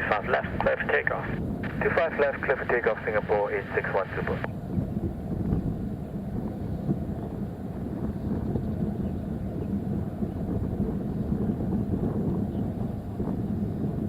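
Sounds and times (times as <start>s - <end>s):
distant jet engines rumbling: 0.0s - 14.0s
wind buffeting microphone: 0.0s - 14.0s.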